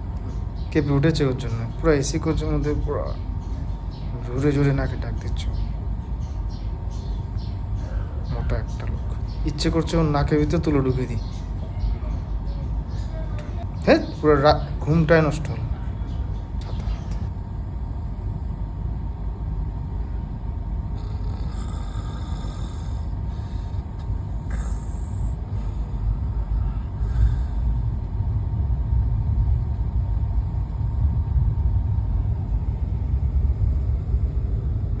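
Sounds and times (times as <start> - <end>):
train coach rumble: 0.0 - 35.0.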